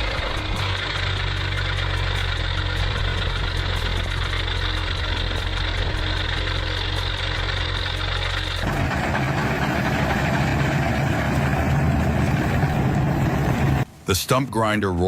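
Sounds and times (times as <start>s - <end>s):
heavy machine engine humming: 0.0s - 14.0s.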